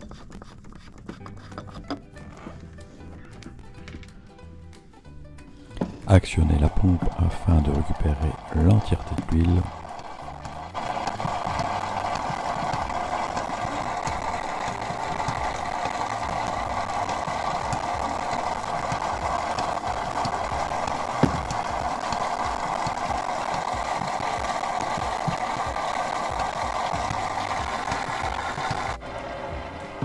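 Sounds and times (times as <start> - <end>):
drain pump running: 5.5 - 30.0.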